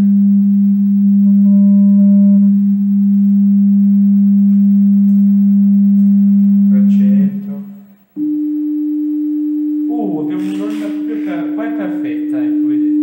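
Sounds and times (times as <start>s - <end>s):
sine-wave test tone: 0.0s - 13.0s.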